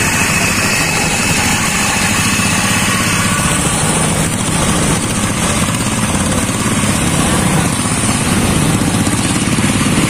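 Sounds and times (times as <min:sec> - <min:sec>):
motorcycle diesel engine chugging: 0:00.0 - 0:10.0.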